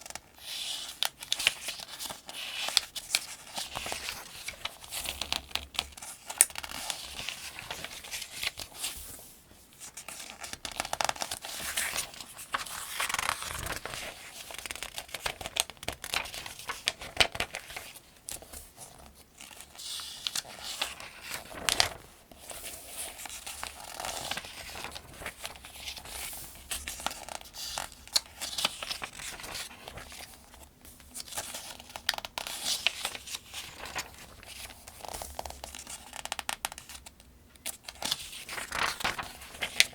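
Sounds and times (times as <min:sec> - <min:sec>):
pages being turned: 0:00.0 - 0:37.0, 0:37.6 - 0:39.9.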